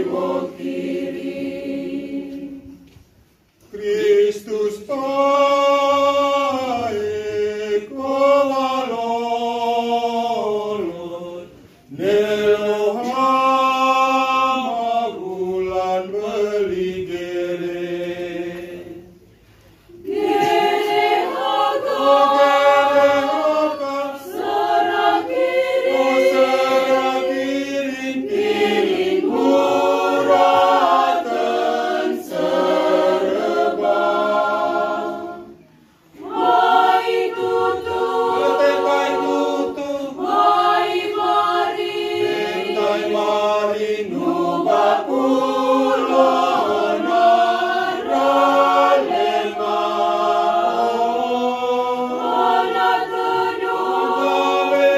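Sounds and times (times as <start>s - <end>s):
group singing unaccompanied: 0.0s - 54.9s.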